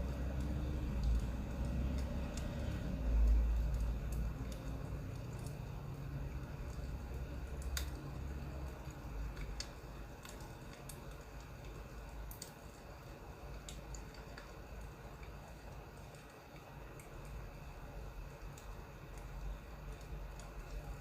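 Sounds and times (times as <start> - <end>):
firewood crackling: 0.0 - 21.0.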